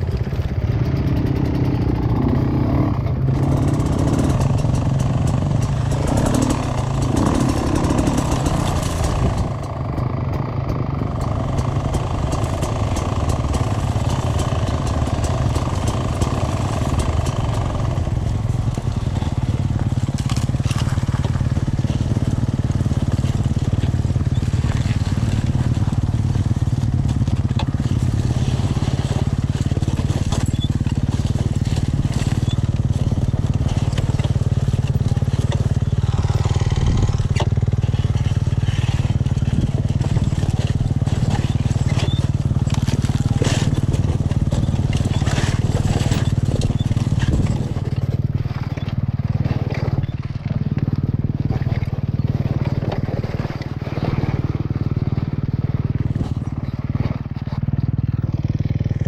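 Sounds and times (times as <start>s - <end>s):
dirt bike engine running: 0.0s - 59.0s
tyres crunching over rocks: 3.3s - 59.0s.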